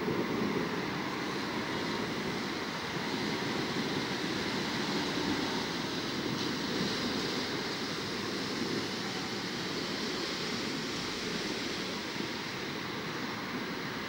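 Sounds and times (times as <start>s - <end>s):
rain pouring: 0.0s - 14.0s
wind: 0.0s - 14.0s.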